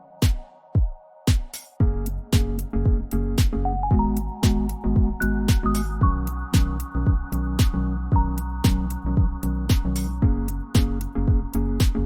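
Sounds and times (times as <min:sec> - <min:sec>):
kick drum beat: 0:00.2 - 0:12.0.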